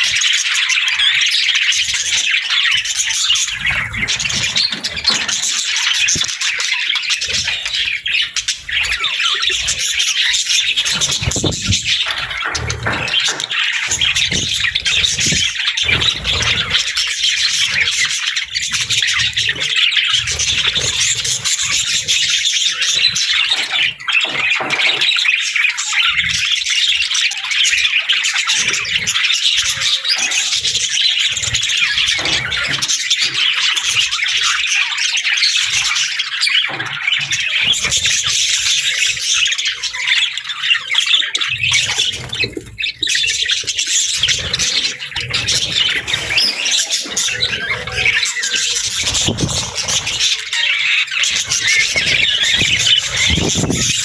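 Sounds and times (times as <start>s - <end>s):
many birds squawking: 0.0s - 54.0s.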